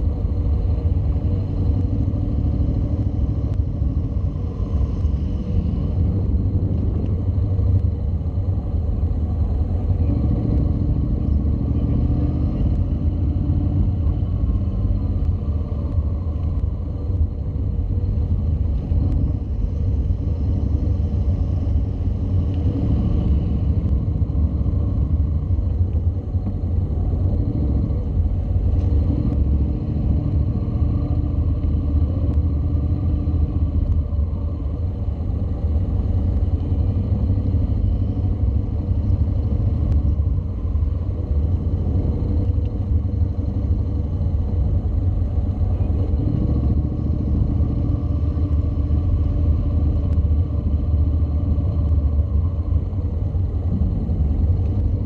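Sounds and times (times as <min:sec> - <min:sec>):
motorcycle engine low rumble: 0:00.0 - 0:55.0.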